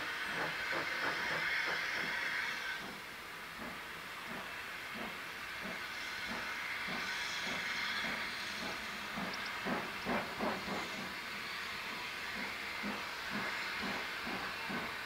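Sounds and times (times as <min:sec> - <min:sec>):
steam hissing: 0:00.0 - 0:15.0
steam locomotive exhaust beats: 0:00.0 - 0:15.0.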